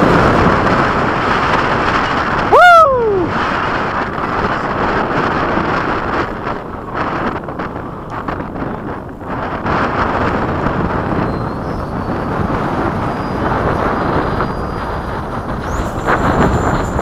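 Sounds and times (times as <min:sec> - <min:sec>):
electric ducted fan rushing: 0:00.0 - 0:17.0
wind buffeting on microphone: 0:00.0 - 0:17.0.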